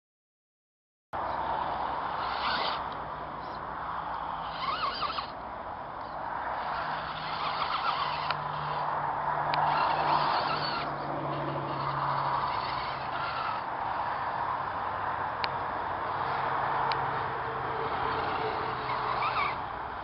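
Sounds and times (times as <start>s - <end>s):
electric motors humming: 1.2s - 20.0s.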